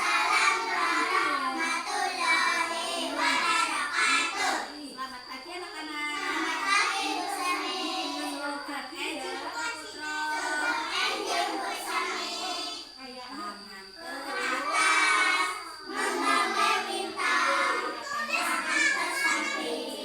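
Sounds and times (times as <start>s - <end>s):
children singing together: 0.0s - 4.7s, 6.2s - 8.4s, 9.7s - 12.9s, 14.0s - 20.0s
children talking: 0.0s - 20.0s.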